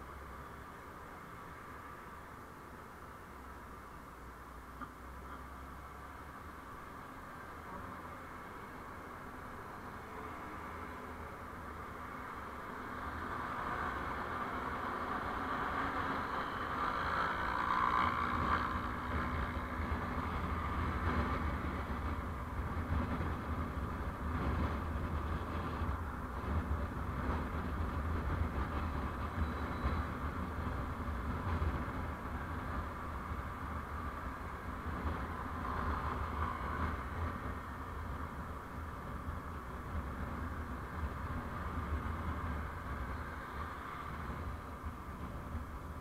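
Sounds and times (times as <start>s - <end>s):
vehicle road and engine noise: 0.0s - 46.0s.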